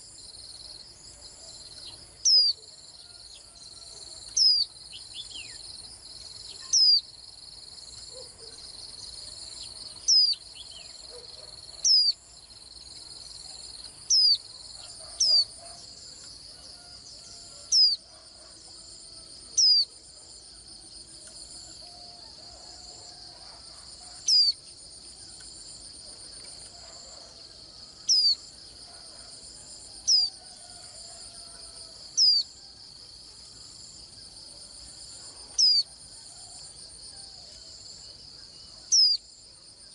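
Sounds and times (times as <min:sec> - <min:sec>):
high-pitched insect trill: 0:01.5 - 0:18.1, 0:18.7 - 0:39.9.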